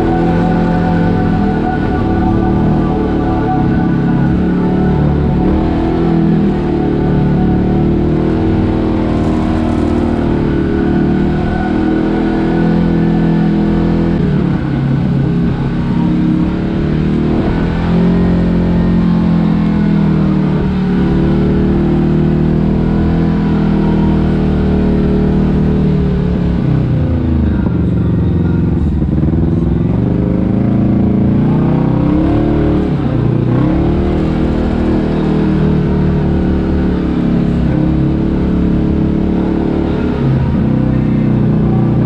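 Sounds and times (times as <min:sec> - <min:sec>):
engine running while driving: 0:00.0 - 0:42.0.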